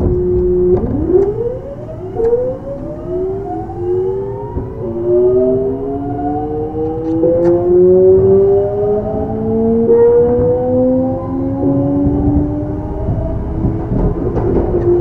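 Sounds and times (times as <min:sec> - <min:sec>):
electric train inverter whining: 0:00.0 - 0:15.0.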